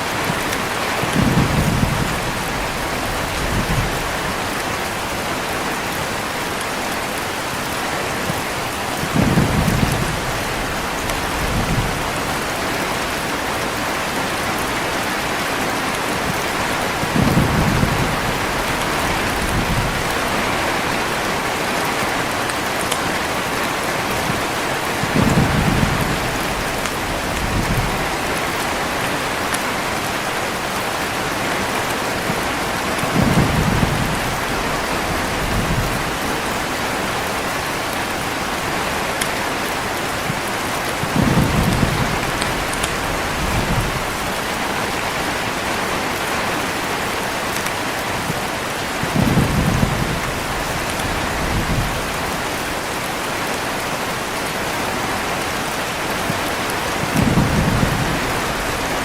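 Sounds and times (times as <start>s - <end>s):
thunder rumbles: 0.0s - 6.2s, 8.1s - 29.8s, 31.3s - 46.6s, 48.2s - 52.9s, 55.5s - 59.0s
heavy rain hissing: 0.0s - 59.0s.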